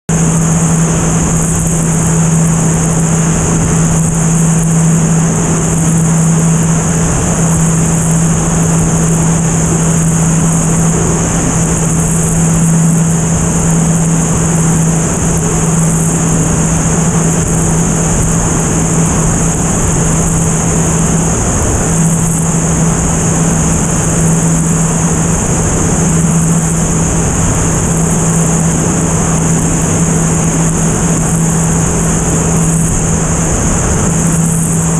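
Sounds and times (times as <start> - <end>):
propeller airplane engine hum: 0.0 - 34.9
airflow rushing over microphone: 0.1 - 34.9.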